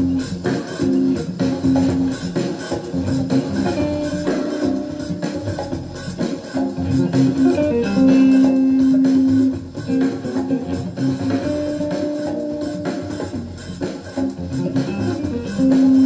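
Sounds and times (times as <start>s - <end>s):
jazz guitar with small band: 0.0s - 16.0s.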